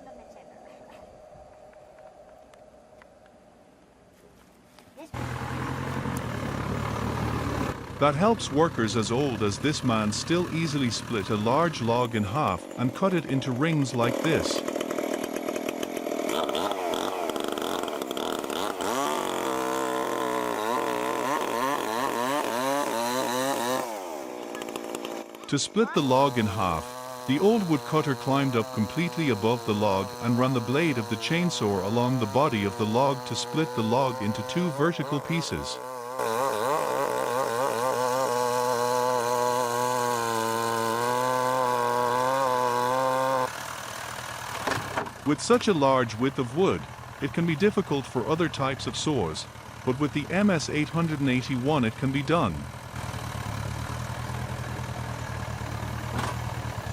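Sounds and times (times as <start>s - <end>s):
chainsaw cutting into log: 5.1s - 56.9s.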